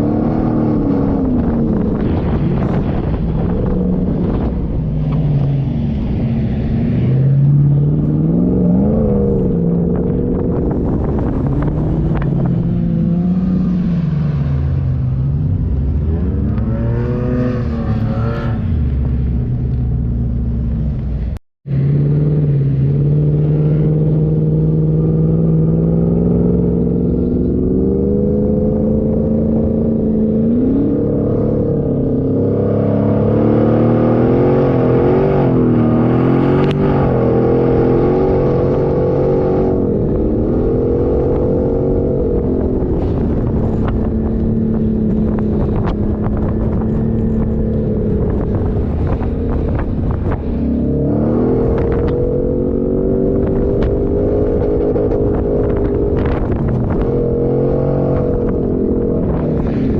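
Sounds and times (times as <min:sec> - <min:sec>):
off-road engine revving: 0:00.0 - 0:59.9.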